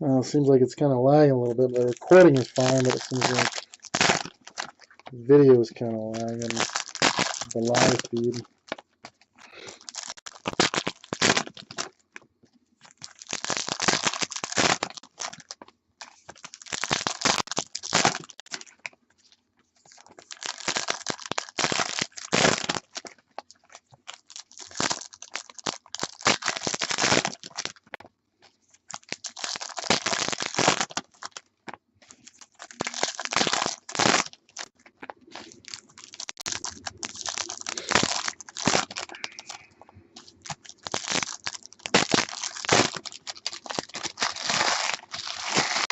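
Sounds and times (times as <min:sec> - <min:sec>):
foil wrappers crinkling and tearing: 0:01.4 - 0:12.2, 0:12.8 - 0:45.9.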